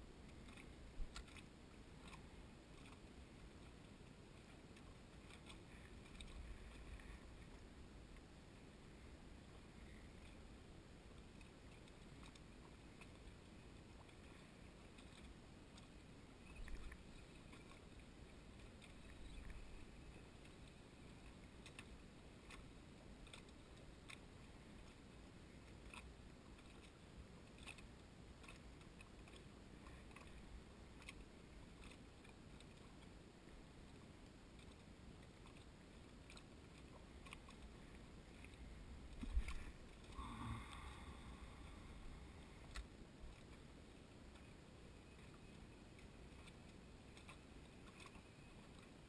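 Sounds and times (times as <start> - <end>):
small waves lapping: 0.0 - 49.0
light irregular clicks: 0.1 - 49.0.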